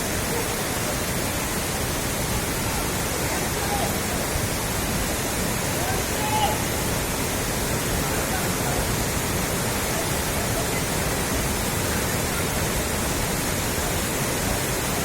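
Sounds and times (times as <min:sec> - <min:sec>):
rushing floodwater: 0:00.0 - 0:15.0.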